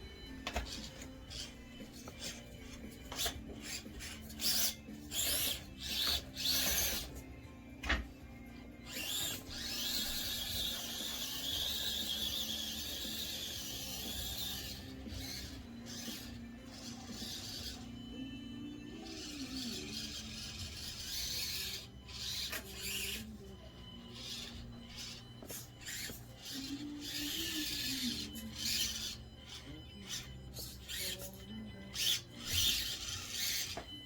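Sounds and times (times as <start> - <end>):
toy car motor whirring: 0.3 - 7.4, 8.5 - 34.0.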